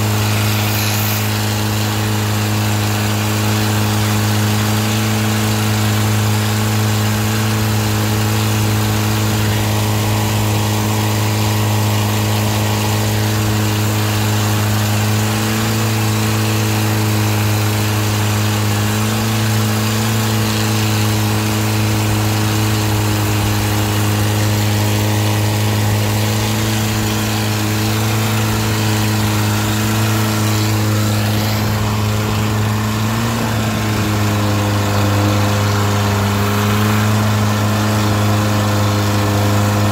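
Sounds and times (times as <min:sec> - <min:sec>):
boat engine running: 0:00.0 - 0:39.9
water rushing along hull: 0:00.0 - 0:39.9.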